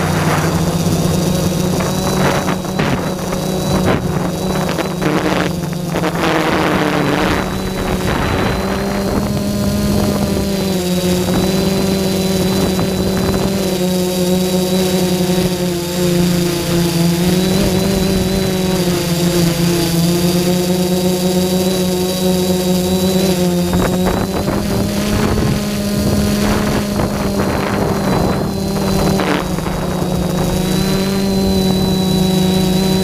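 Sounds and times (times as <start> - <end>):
drone propellers humming: 0.0 - 33.0.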